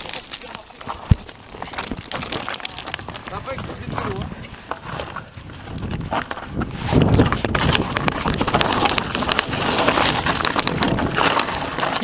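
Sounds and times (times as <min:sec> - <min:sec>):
bike rattling: 0:00.0 - 0:12.0
tyres crunching on stones: 0:00.0 - 0:12.0.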